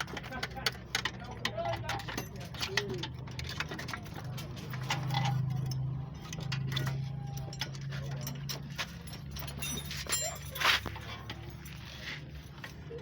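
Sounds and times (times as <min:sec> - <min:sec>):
metal parts clicking and tapping: 0:00.0 - 0:13.0.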